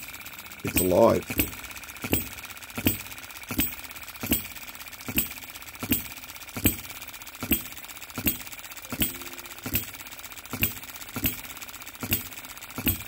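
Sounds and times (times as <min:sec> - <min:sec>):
light mechanical ticking: 0:00.0 - 0:13.0
small engine firing with sharp pops: 0:00.0 - 0:13.0.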